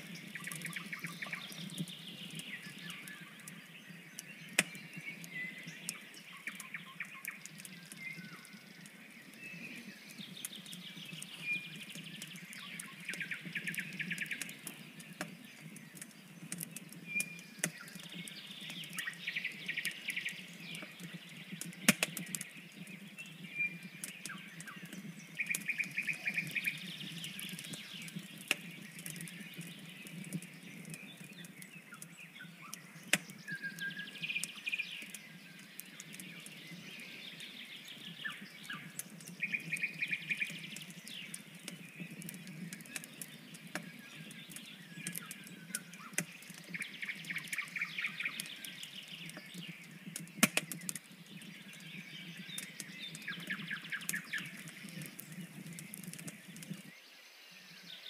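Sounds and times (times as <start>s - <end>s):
birds trilling: 0.0s - 57.0s
wood fire crackling and popping: 0.0s - 57.0s.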